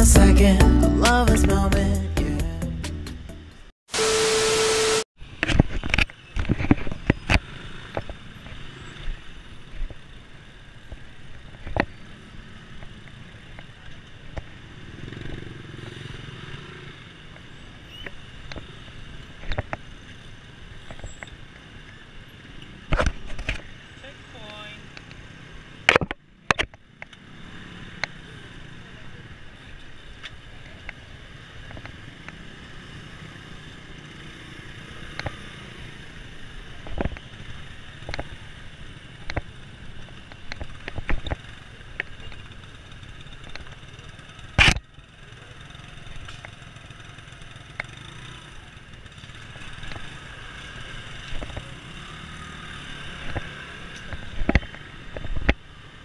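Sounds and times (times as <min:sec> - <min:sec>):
street traffic: 0:00.0 - 0:56.0
motorcycles running: 0:07.0 - 0:56.0.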